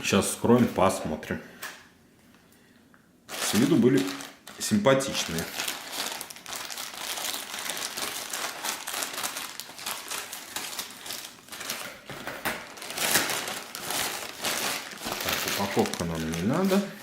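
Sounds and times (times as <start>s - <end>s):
plastic packaging crinkling: 3.3s - 17.0s.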